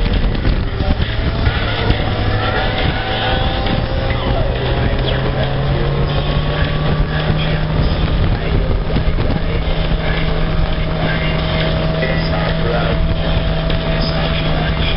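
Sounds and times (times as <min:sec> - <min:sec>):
motorcycle engine running: 0:00.0 - 0:14.9
wind noise on microphone: 0:00.0 - 0:14.9.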